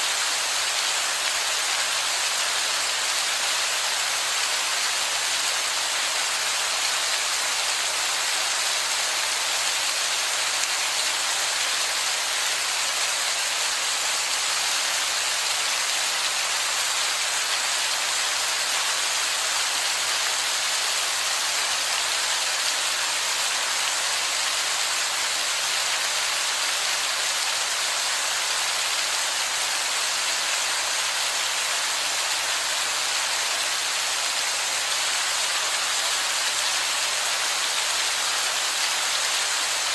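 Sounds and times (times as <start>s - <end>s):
heavy rain on rock: 0.0s - 39.9s.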